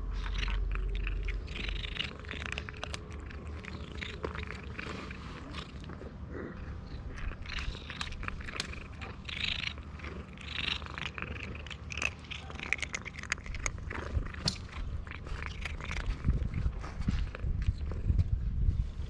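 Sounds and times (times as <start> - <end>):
cat crunching dry kibble: 0.0 - 18.4
cat purring: 0.0 - 18.4.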